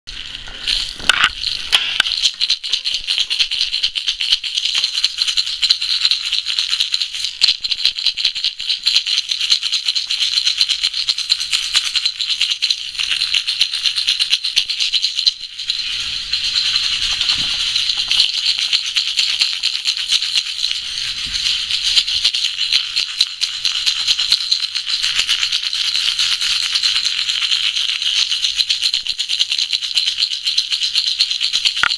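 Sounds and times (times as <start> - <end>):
rattle shaken rapidly: 0.1 - 31.9.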